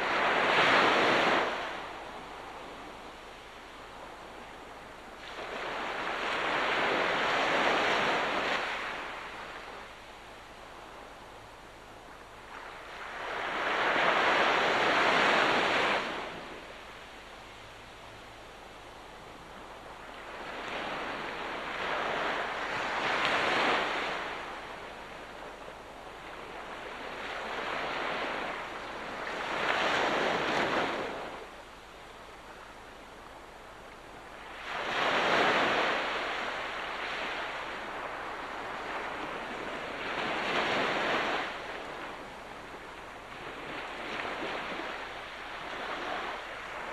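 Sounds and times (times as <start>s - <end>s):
waves breaking on shore: 0.0s - 11.3s, 12.0s - 46.9s.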